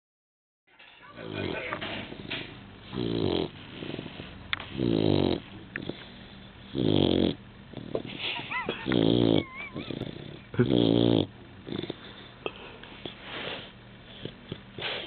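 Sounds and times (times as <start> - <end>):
dog snoring: 1.1 - 15.0.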